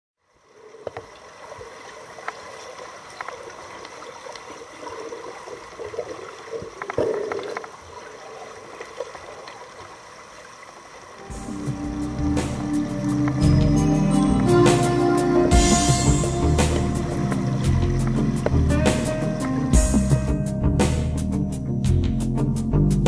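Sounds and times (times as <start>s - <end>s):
water gurgling and trickling: 0.2s - 20.3s.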